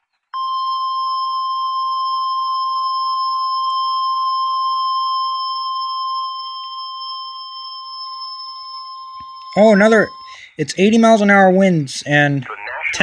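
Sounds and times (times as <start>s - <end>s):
steady alarm tone: 0.4s - 11.2s.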